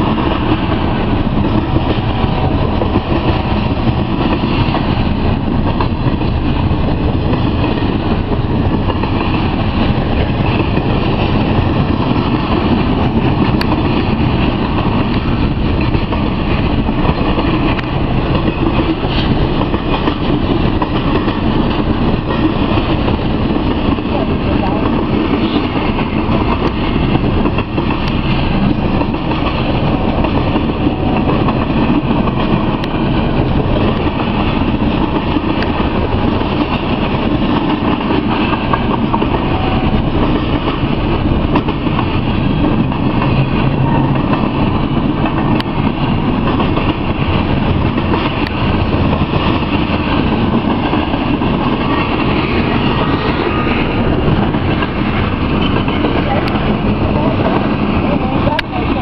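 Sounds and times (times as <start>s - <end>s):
train wheels running over rails: 0.0s - 59.0s.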